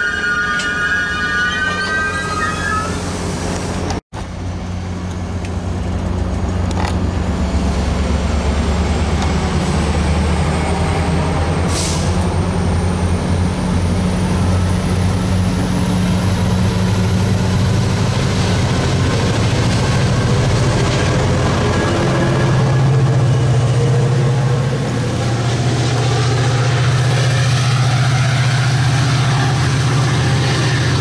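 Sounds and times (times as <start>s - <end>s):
diesel locomotive engine drone: 0.0s - 31.0s
rail noise: 0.0s - 31.0s.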